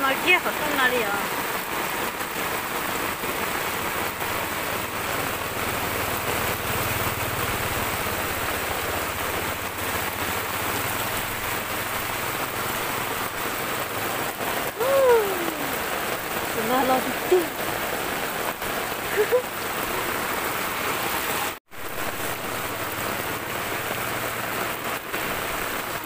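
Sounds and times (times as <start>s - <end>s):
heavy rain on floodwater: 0.0s - 26.0s.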